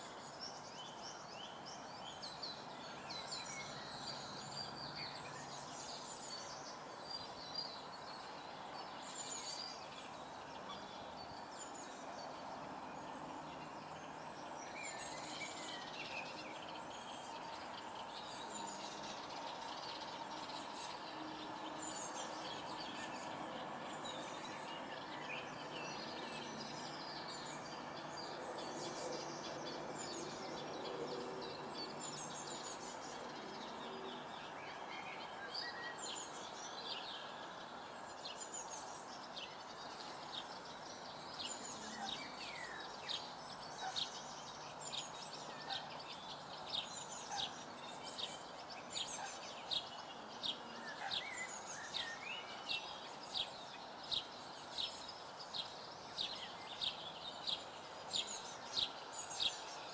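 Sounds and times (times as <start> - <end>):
birds calling and chirping: 0.0 - 59.9
outdoor background hiss: 0.0 - 59.9.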